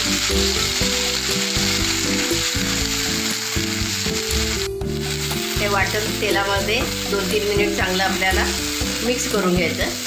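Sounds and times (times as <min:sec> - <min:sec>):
low background music: 0:00.0 - 0:10.0
paste sizzling in hot oil: 0:00.0 - 0:10.0.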